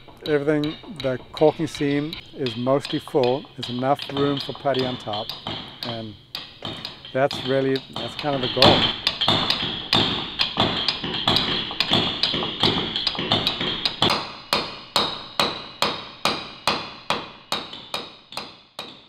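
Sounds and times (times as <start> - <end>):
mallet striking caulking iron: 0.0 - 19.0.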